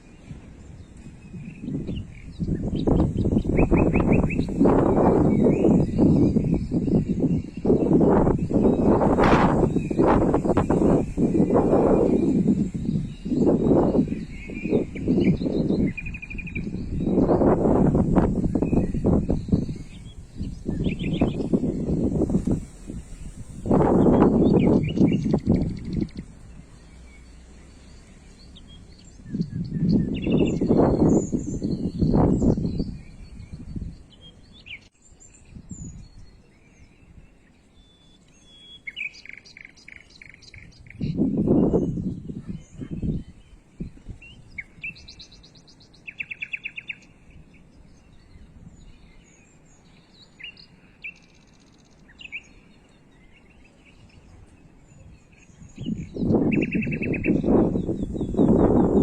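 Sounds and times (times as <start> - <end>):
wind buffeting microphone: 0.0 - 37.5, 38.4 - 59.0
small birds chirping: 0.0 - 59.0.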